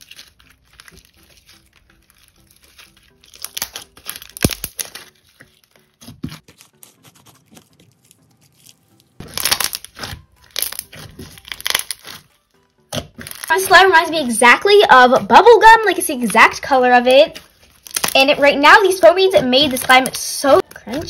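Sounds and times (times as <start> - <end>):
slime crackling and popping: 0.0 - 6.4, 8.4 - 21.0.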